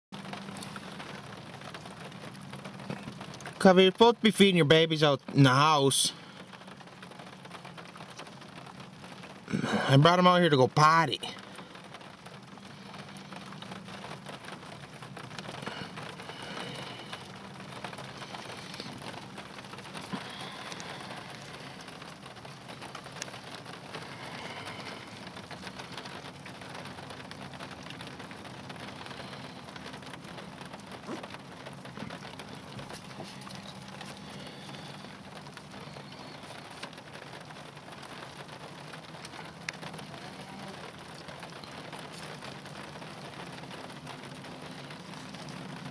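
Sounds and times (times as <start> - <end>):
rain on snow and ice: 0.1 - 45.9.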